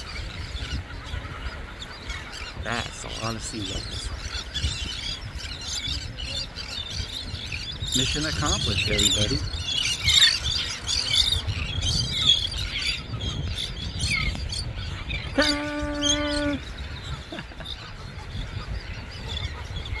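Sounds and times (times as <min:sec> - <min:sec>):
gulls squawking: 0:00.0 - 0:20.0
wind rumble on microphone: 0:00.0 - 0:20.0.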